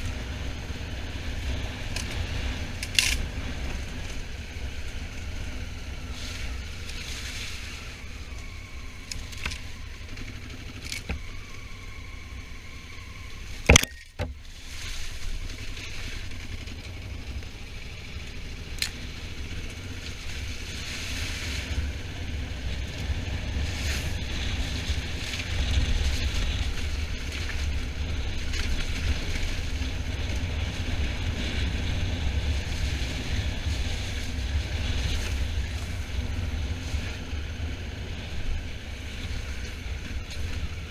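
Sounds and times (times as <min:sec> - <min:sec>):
motorcycle running: 0:00.0 - 0:40.9.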